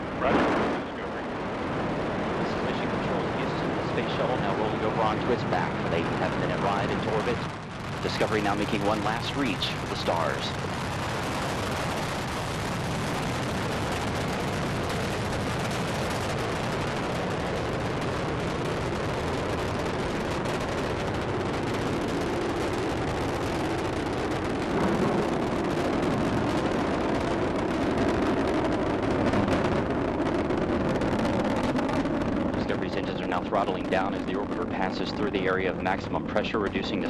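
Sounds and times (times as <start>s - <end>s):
rocket engines crackling rumble: 0.0s - 37.0s.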